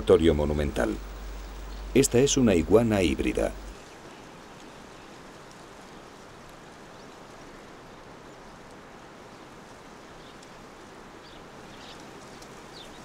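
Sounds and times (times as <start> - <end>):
outdoor ambient hiss: 0.0 - 13.0.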